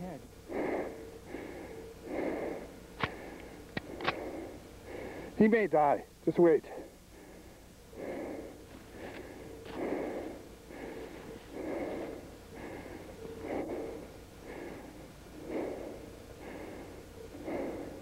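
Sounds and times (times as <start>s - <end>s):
heavy laboured breathing: 0.4s - 5.4s, 6.6s - 18.0s.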